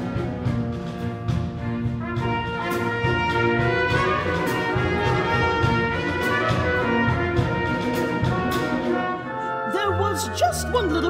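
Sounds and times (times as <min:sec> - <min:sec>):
drum strokes: 0:00.0 - 0:09.2
chamber orchestra playing: 0:00.0 - 0:11.0.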